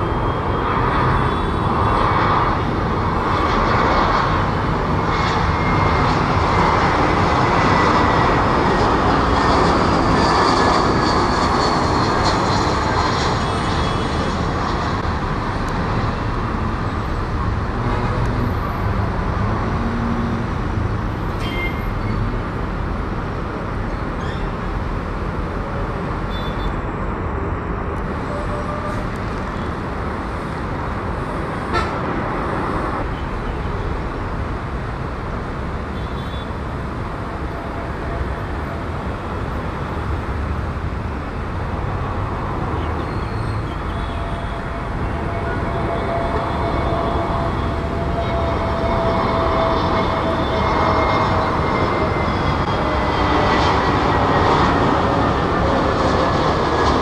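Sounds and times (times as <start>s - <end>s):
jet engines landing: 0.0s - 57.0s.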